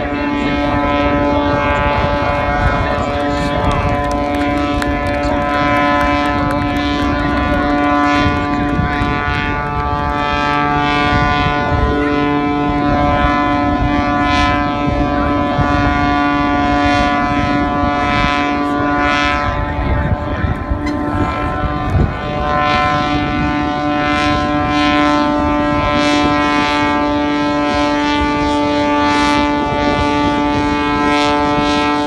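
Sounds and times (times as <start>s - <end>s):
propeller aircraft engine drone: 0.0s - 32.0s.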